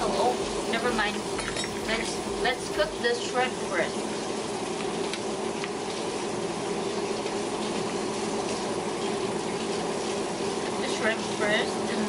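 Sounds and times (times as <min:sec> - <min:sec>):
boiling water bubbling hiss: 0:00.0 - 0:12.0
low steady hum: 0:00.0 - 0:12.0.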